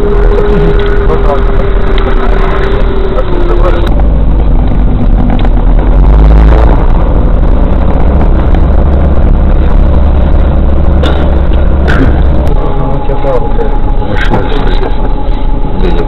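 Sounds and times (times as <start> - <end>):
car rumbling on dirt track: 0.0 - 16.0.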